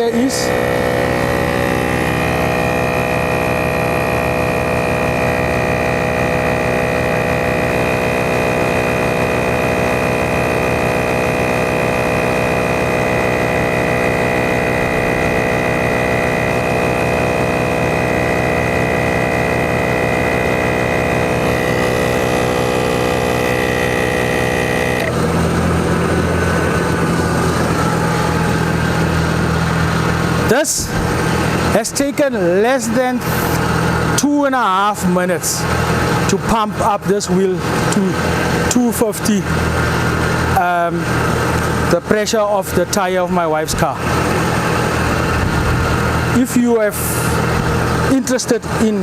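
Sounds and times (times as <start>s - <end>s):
air compressor running: 0.0s - 49.0s
high whine: 0.0s - 49.0s.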